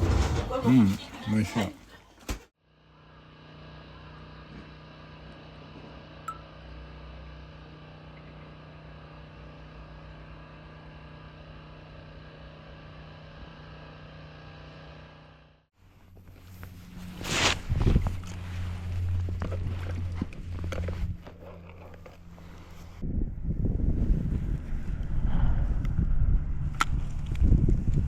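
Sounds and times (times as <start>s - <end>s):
mechanical drone humming: 2.6s - 28.0s.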